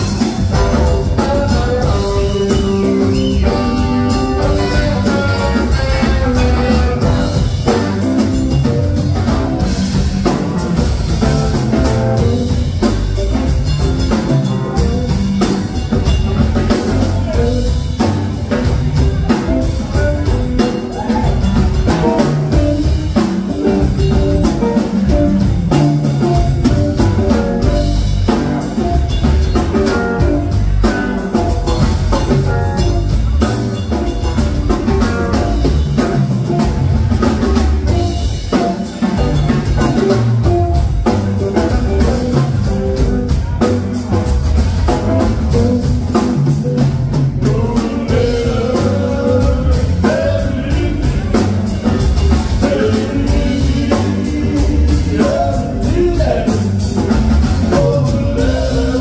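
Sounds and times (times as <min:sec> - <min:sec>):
bass: 0:00.0 - 0:59.0
drums: 0:00.0 - 0:59.0.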